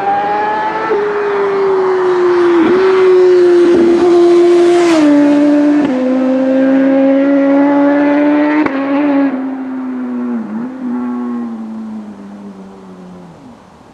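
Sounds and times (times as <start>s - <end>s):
motorcycle engine at high revs: 0.0s - 12.3s.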